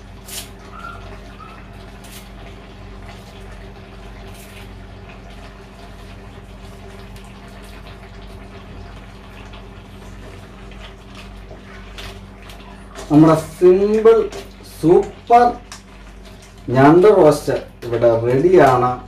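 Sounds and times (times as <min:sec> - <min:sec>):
food sizzling and bubbling in a pan: 0:00.0 - 0:19.0.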